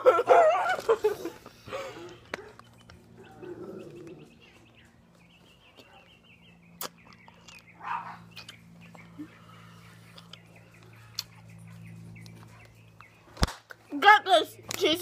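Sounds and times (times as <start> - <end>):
steady low hum: 0.0 - 15.0
small bird chirping: 2.4 - 15.0.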